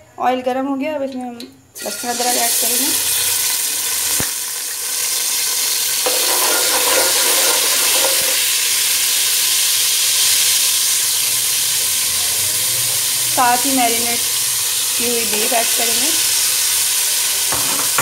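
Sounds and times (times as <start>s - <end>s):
paste sizzling in hot oil: 1.8s - 18.0s.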